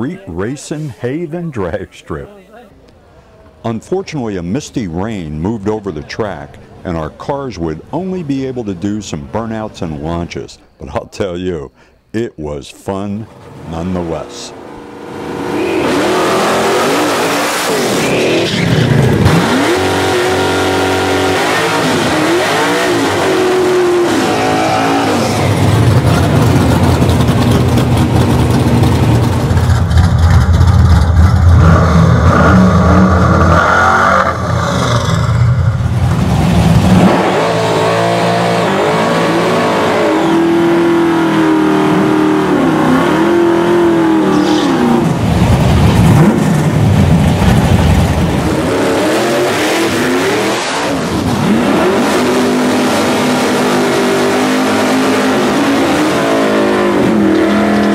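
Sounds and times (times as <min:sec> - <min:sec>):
race car engines revving: 0:03.0 - 0:11.0, 0:12.9 - 0:57.9.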